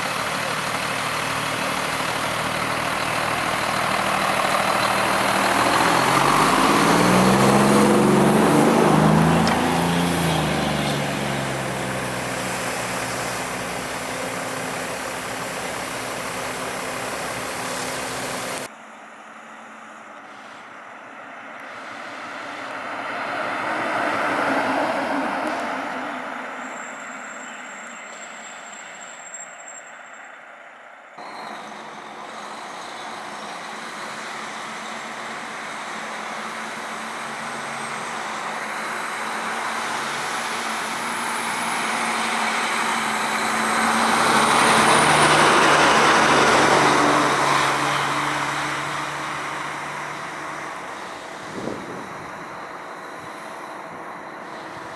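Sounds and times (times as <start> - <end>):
emergency vehicles driving past: 0.0 - 54.9
engine and tyre noise: 0.0 - 54.9.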